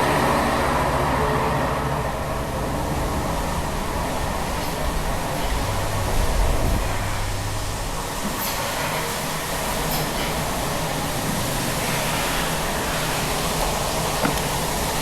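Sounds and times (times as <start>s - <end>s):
dairy shed machinery running: 0.0s - 15.0s.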